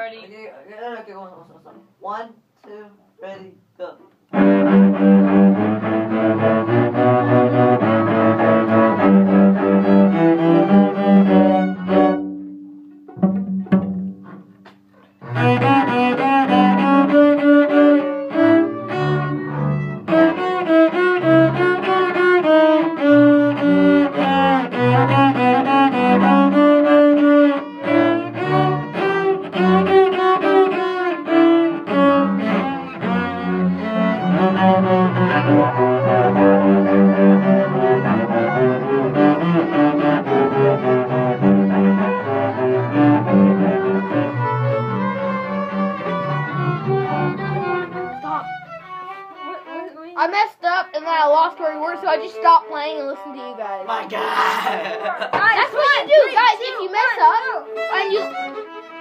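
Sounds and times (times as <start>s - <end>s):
bowed cello notes: 4.3s - 59.0s.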